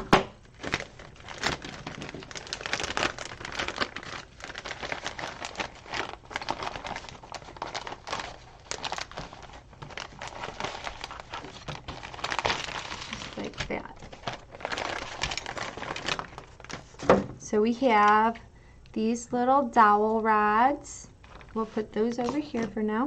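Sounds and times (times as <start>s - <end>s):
plastic bag crinkling: 0.0s - 17.2s, 21.2s - 22.8s.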